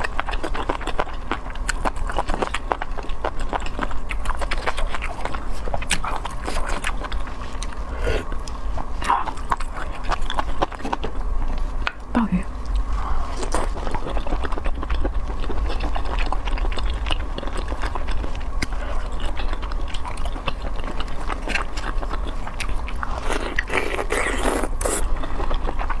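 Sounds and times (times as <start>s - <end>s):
crunchy chewing: 0.0s - 26.0s
steady low hum: 0.0s - 26.0s.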